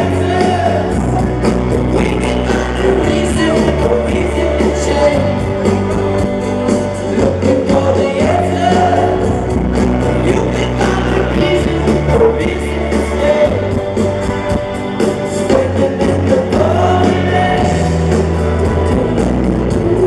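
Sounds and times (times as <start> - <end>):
male voice singing: 0.0 - 6.0, 6.9 - 14.1, 15.3 - 20.0
rock band playing: 0.0 - 20.0.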